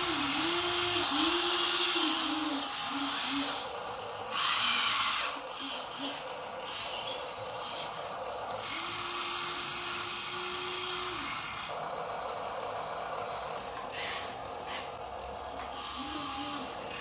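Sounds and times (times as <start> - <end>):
toy truck motors whirring: 0.0 - 17.0.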